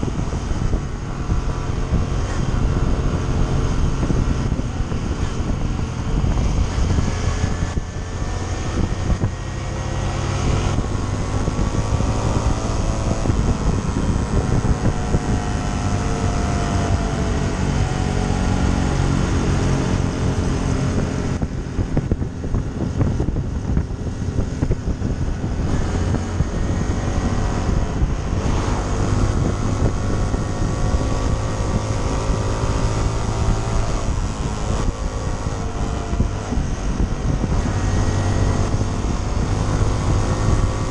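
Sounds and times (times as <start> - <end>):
motorcycle engine revving: 0.0 - 40.9
wind on microphone: 0.0 - 40.9.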